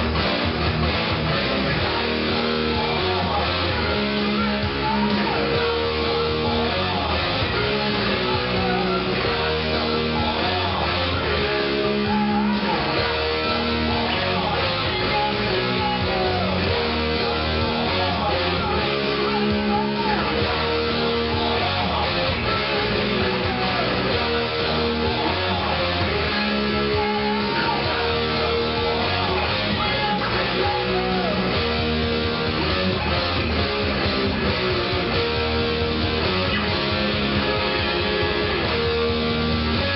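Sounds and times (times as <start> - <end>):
distorted electric guitar riff: 0.0 - 39.9
low bass: 0.0 - 39.9.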